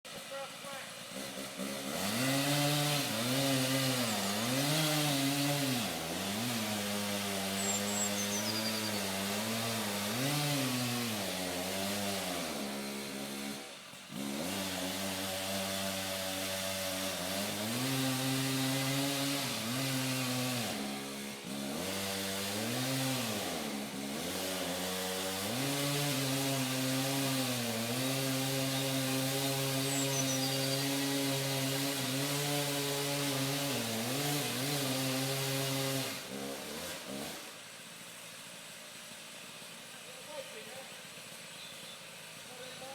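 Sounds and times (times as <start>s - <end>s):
chainsaw cutting tree trunk: 0.1s - 42.9s.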